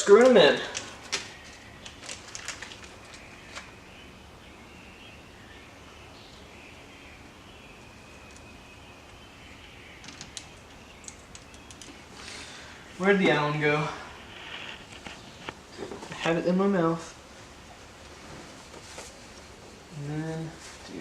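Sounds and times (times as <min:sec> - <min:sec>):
faint bird chirping: 0:00.1 - 0:21.0.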